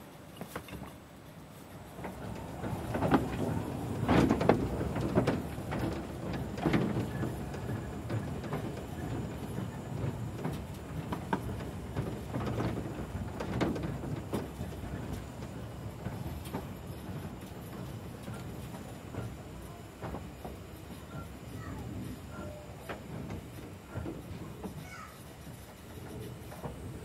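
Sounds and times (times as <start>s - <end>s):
train rumbling: 0.0s - 27.0s
train wheels clunking over joints: 0.0s - 27.0s.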